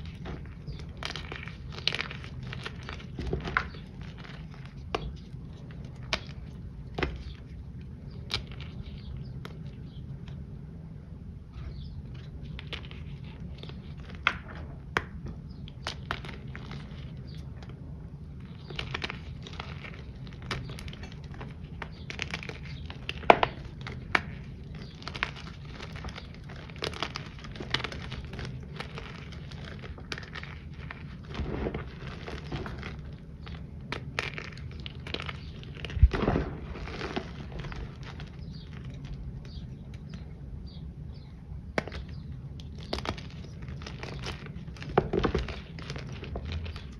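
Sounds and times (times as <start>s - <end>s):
hands crushing powder chunks: 0.0s - 10.8s, 12.0s - 46.9s.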